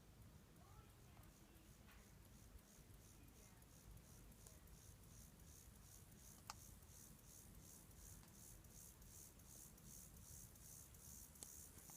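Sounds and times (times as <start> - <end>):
insect chirping: 0.0 - 11.9.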